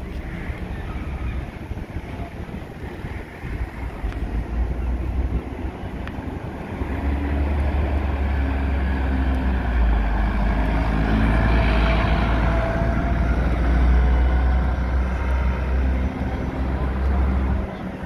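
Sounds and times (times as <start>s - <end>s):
bus diesel engine driving past: 0.0s - 18.0s
road noise: 0.0s - 18.0s.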